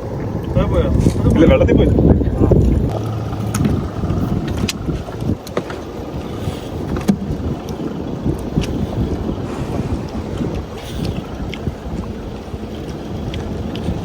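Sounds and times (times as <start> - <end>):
water against boat hull: 0.0 - 14.0
wind buffeting microphone: 0.0 - 14.0.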